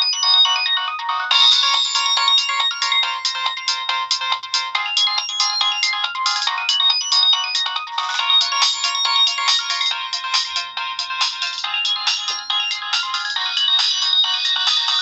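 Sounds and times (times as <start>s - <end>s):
electronic ringtone melody: 0.0s - 15.0s.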